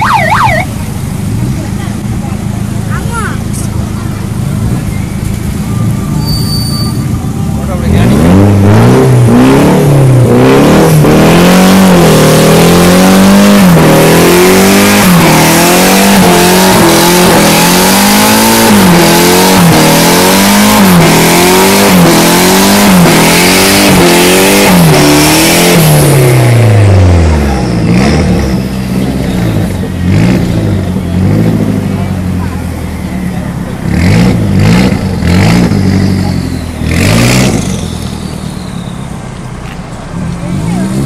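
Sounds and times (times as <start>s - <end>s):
car engine revving: 0.0s - 6.2s, 7.0s - 41.0s.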